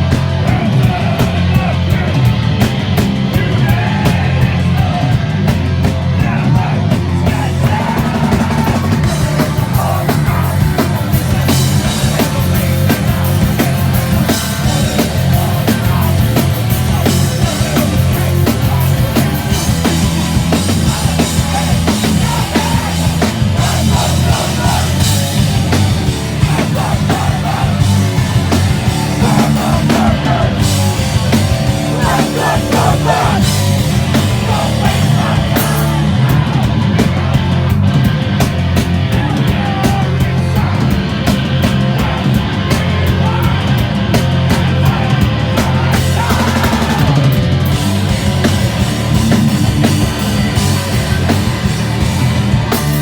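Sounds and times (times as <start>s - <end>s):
punk band playing live: 0.0s - 53.0s.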